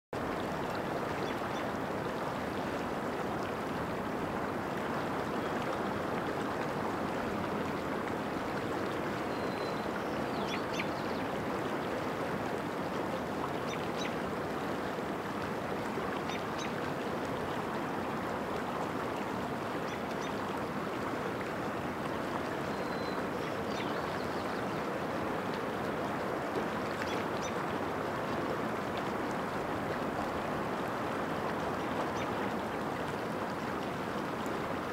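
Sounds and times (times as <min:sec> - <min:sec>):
stream water running among rocks: 0:00.2 - 0:34.9.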